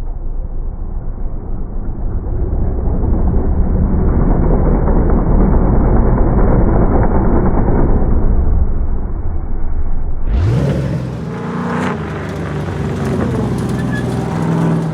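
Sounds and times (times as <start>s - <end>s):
vehicle engine rumble: 0.0s - 14.9s.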